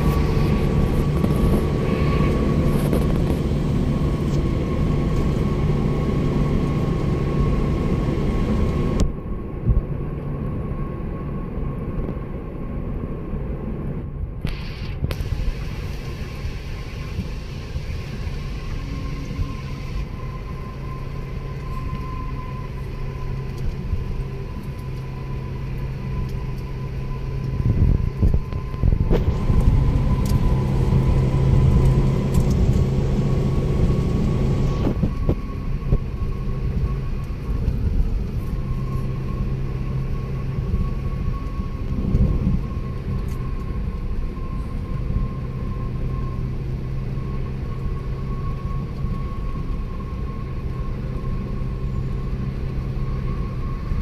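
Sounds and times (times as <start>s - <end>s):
car road noise rumble: 0.0s - 54.0s
faint steady whine: 0.0s - 54.0s.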